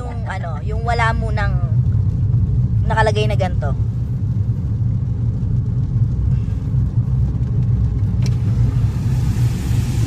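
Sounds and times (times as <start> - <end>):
car driving on wet road: 0.0 - 10.0.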